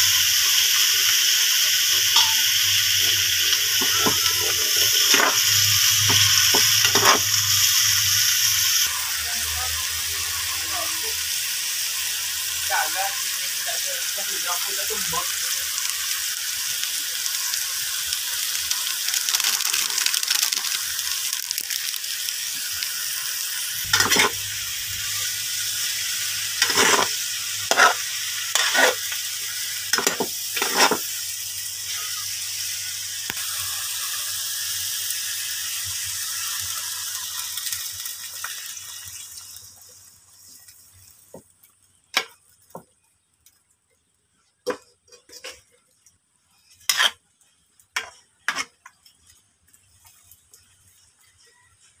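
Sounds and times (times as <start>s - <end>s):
food sizzling in a pot: 0.0s - 52.0s.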